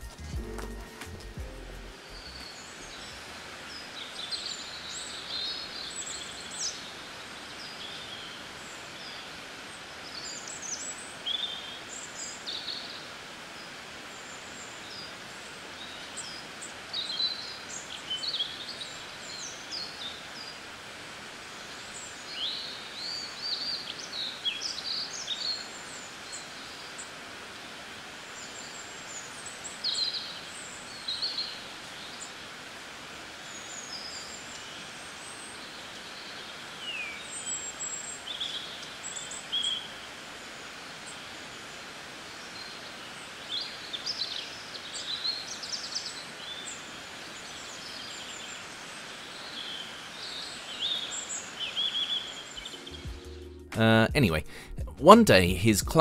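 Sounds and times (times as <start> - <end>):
outdoor ambience hiss: 0.0 - 56.0
songbirds chirping: 0.0 - 56.0.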